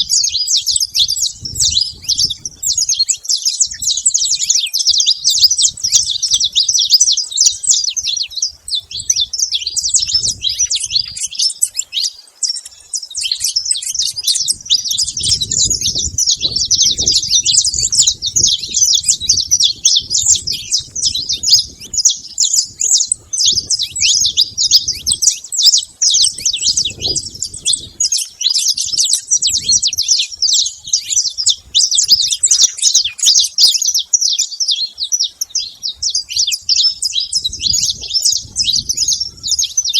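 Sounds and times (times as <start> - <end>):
finch chirps and trills: 0.0 - 39.9.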